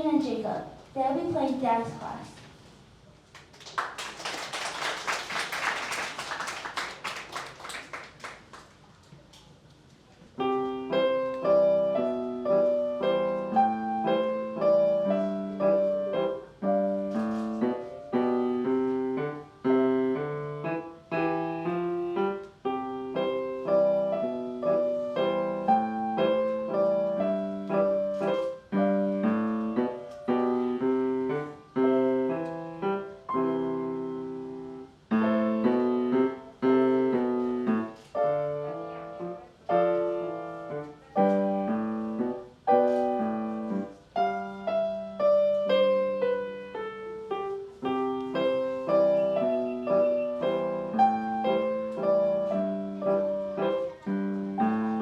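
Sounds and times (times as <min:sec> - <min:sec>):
piano duet: 0:10.3 - 0:55.0.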